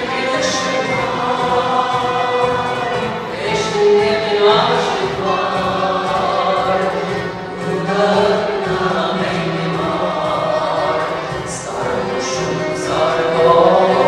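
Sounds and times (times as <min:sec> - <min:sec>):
accordion: 0:00.0 - 0:14.0
mixed choir singing: 0:00.0 - 0:14.0
violin: 0:00.0 - 0:14.0.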